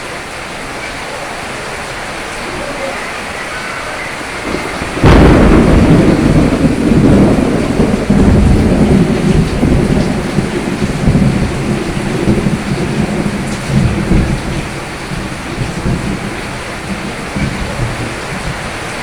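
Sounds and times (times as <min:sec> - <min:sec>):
heavy rain: 0:00.0 - 0:19.0
thunder rumbling: 0:00.0 - 0:19.0
thunderclap: 0:02.4 - 0:19.0.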